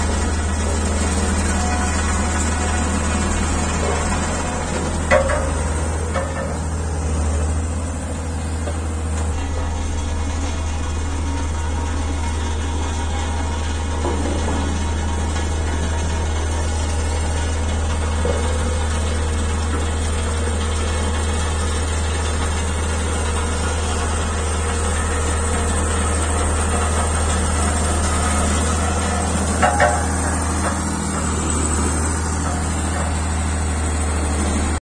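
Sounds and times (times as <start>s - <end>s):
compactor diesel engine droning: 0.0s - 34.8s.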